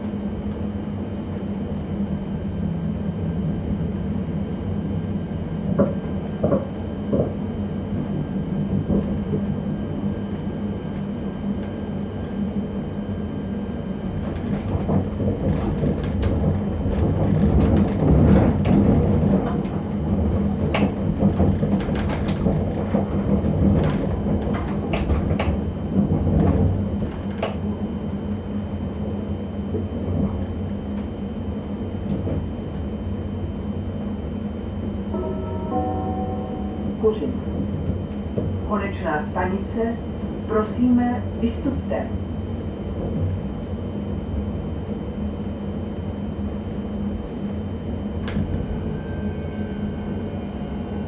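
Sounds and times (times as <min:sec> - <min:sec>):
train running hum: 0:00.0 - 0:51.0.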